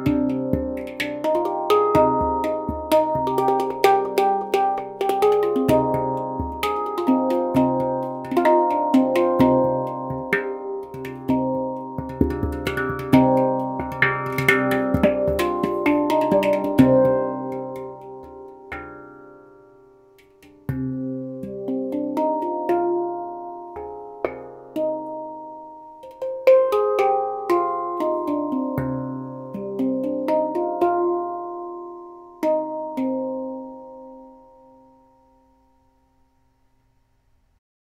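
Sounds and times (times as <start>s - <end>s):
handpan played by hand: 0.0s - 35.5s.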